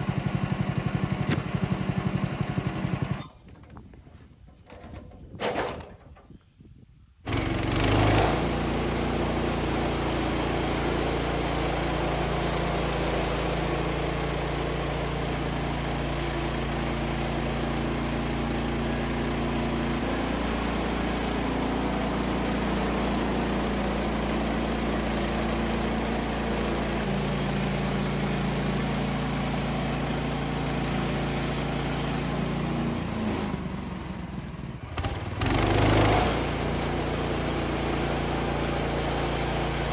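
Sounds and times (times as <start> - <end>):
sawmill engine running: 0.0 - 3.3, 7.3 - 39.9.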